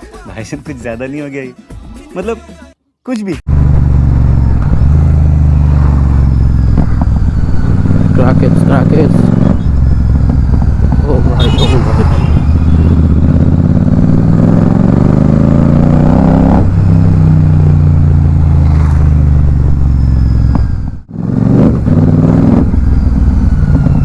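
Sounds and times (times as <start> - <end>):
motorcycle engine accelerating: 3.5 - 24.0.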